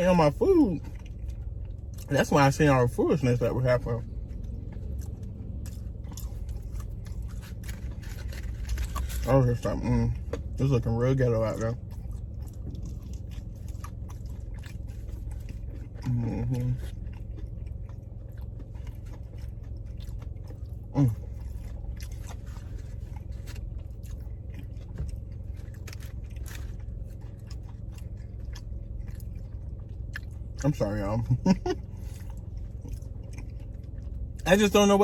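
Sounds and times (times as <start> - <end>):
chewing crunchy food: 0.0 - 35.0
steady low hum: 0.0 - 35.0.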